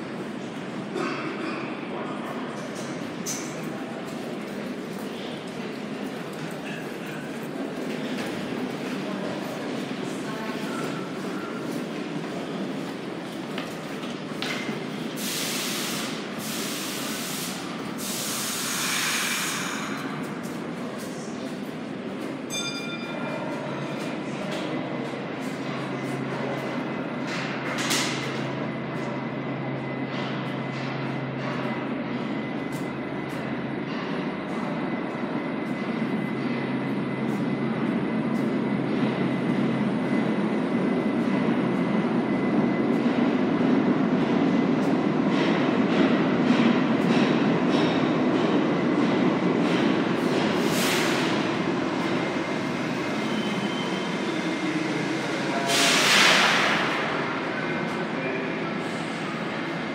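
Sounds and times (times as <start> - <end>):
subway train rumble: 0.0 - 59.9.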